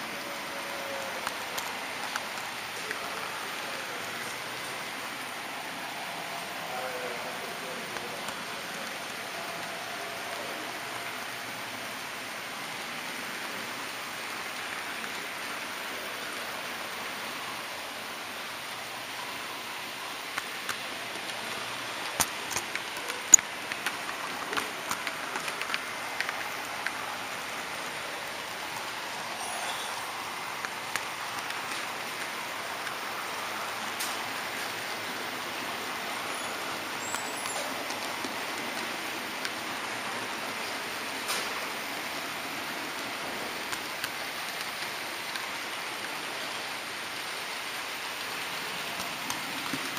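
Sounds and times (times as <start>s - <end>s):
model train rushing along track: 0.0s - 49.9s.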